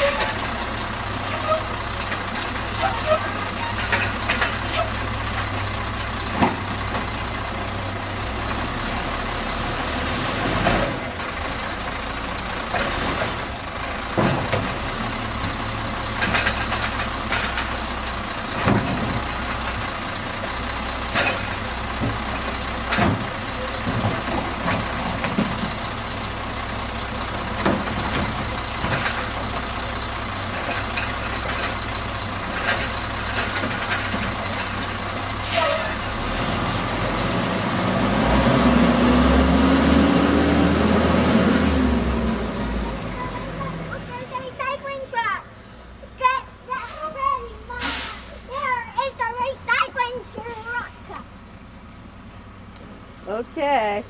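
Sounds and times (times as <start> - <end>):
garbage truck diesel engine: 0.0 - 54.0.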